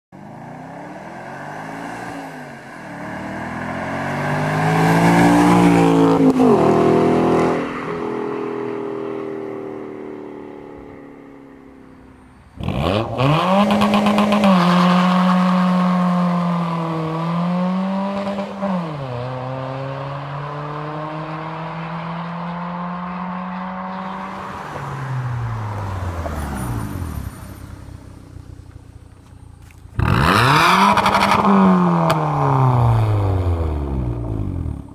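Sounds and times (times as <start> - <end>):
car engine revving: 0.2 - 29.0, 29.9 - 34.9.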